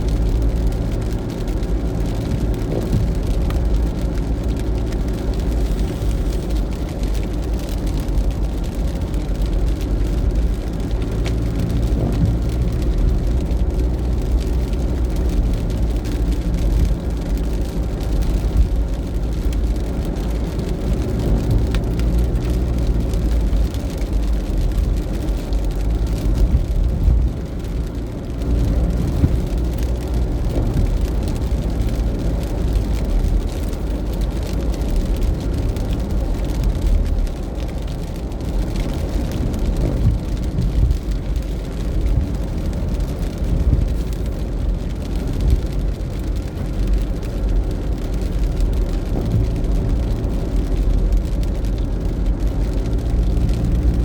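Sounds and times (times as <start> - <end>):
heavy low rumble: 0.0 - 54.0
steady rain: 0.0 - 54.0.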